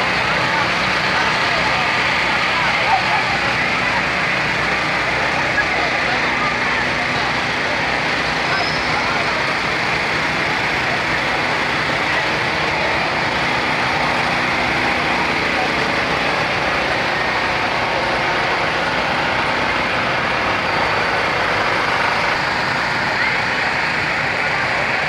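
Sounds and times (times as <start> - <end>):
engine humming: 0.0 - 25.0
murmur of walking crowd: 0.0 - 25.0.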